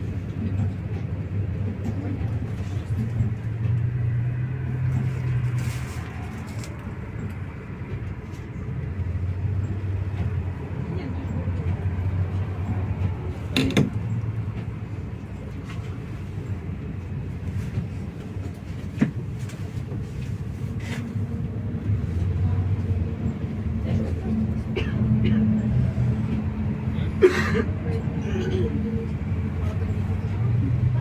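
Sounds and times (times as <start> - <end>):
bus engine and road drone: 0.0 - 31.0.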